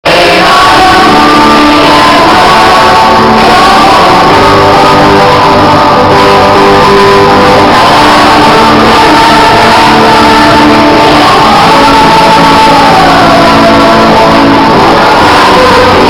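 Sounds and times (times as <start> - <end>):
guitar-led praise song: 0.0 - 16.0
people singing: 0.0 - 16.0.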